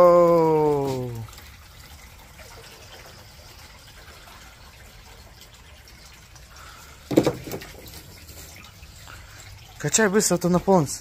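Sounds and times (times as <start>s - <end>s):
water trickling from plastic toy: 0.0s - 11.0s.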